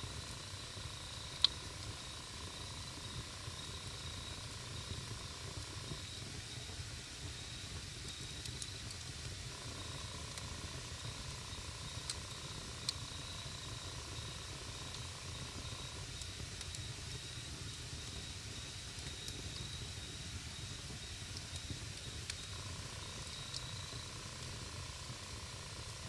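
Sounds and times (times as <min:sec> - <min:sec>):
campfire crackling: 0:00.1 - 0:26.0.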